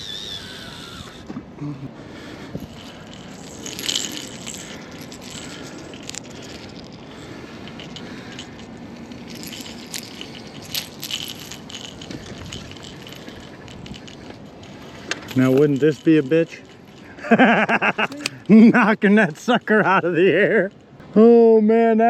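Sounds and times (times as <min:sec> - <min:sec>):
fishing gear clicking and rattling: 0:00.0 - 0:21.1.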